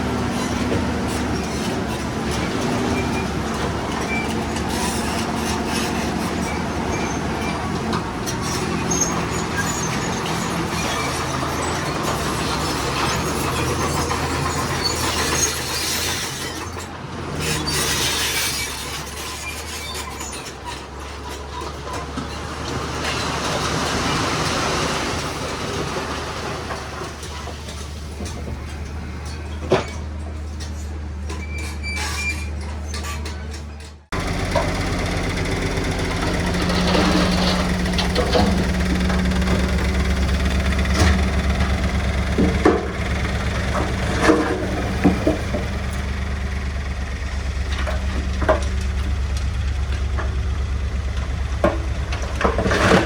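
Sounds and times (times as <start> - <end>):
bulldozer diesel engine running: 0.0 - 53.0
steel tracks clattering: 0.0 - 53.0.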